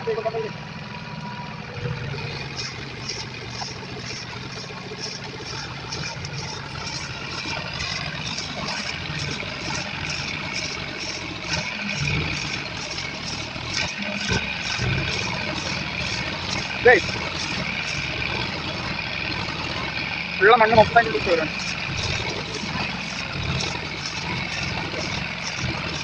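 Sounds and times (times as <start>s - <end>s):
tractor engine running: 0.0s - 26.0s
high regular ticking: 0.1s - 26.0s.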